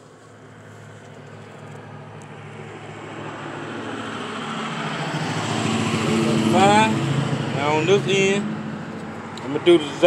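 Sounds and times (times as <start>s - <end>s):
motor vehicle approaching: 0.0s - 10.0s.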